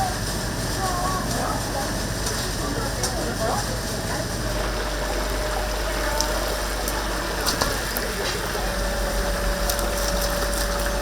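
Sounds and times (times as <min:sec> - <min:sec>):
oil sizzling in deep fryer: 0:00.0 - 0:11.0.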